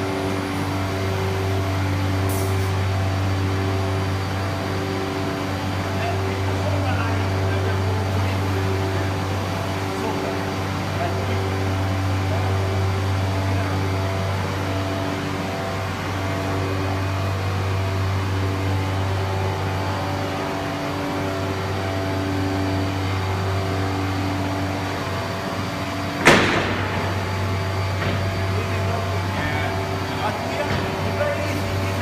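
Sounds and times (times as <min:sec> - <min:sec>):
machine humming: 0:00.0 - 0:32.0.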